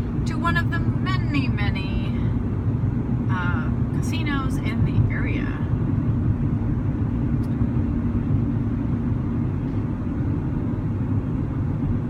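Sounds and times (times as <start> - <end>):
car cabin road rumble: 0.0 - 12.0
faint steady hum: 0.0 - 12.0.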